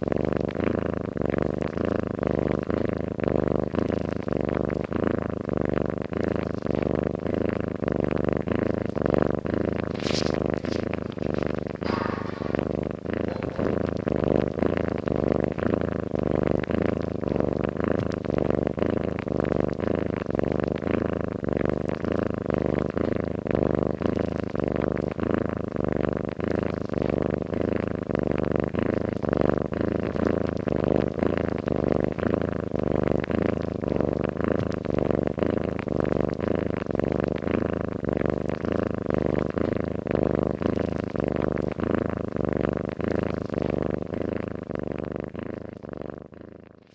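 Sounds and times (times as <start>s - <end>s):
cat purring and snoring: 0.0s - 46.9s.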